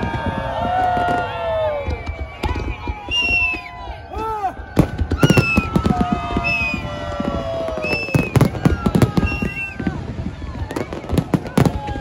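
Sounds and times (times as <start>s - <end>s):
firework whistles sliding down: 0.0s - 3.9s, 5.1s - 11.6s
fireworks bangs and crackles: 0.0s - 12.0s.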